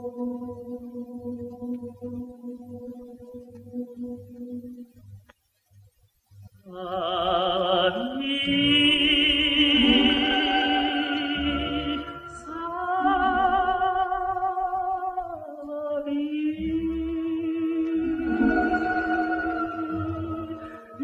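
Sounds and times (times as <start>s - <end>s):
vocal ensemble singing: 0.0s - 5.0s, 6.7s - 21.0s.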